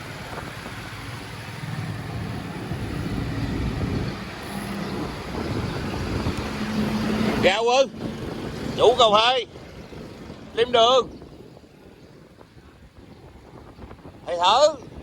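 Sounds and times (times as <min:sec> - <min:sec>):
faint engine hum: 0:00.0 - 0:15.0
road traffic rumble: 0:00.0 - 0:15.0.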